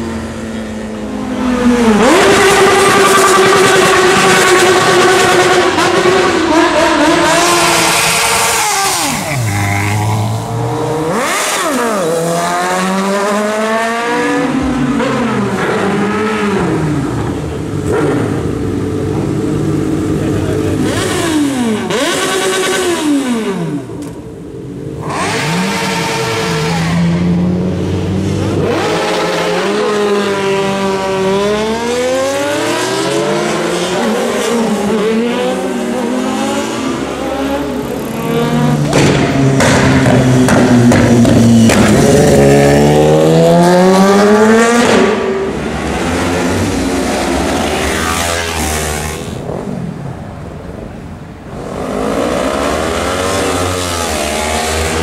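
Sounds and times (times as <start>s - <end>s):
motorcycle engines revving past: 0.0s - 24.2s, 24.8s - 50.3s, 51.5s - 55.0s.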